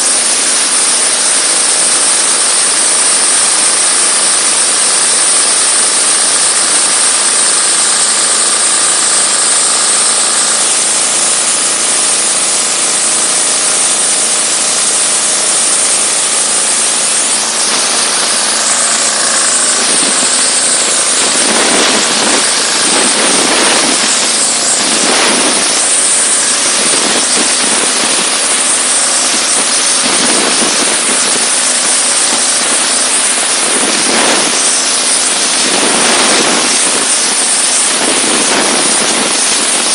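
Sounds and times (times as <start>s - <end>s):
diesel engine hum: 0.0s - 39.9s
pressure washer jet hissing: 0.0s - 39.9s.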